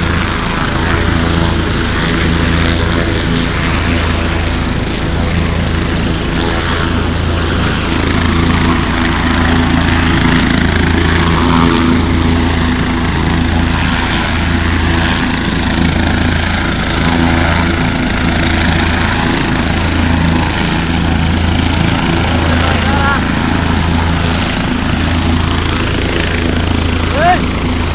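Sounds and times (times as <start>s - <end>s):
helicopter turbine drone: 0.0s - 27.9s.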